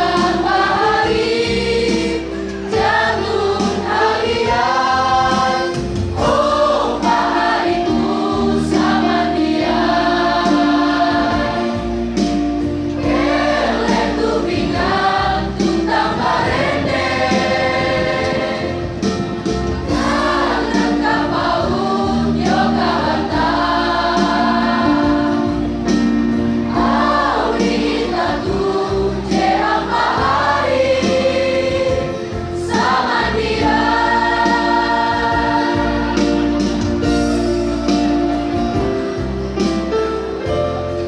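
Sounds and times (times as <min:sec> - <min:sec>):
choir singing: 0:00.0 - 0:37.9.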